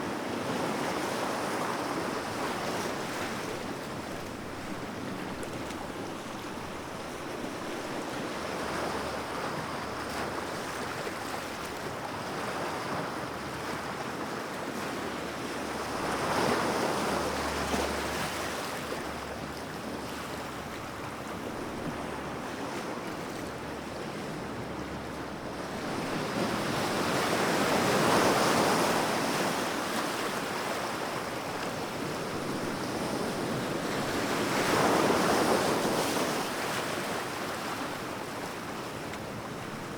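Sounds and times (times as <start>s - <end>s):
sea waves surf: 0.0s - 39.9s.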